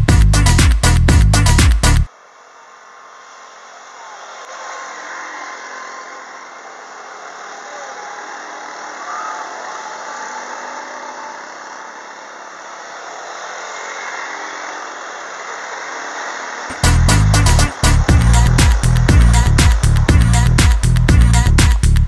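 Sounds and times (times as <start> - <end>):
quad bike engines passing: 0.0 - 22.0
steady rushing noise: 0.5 - 22.0.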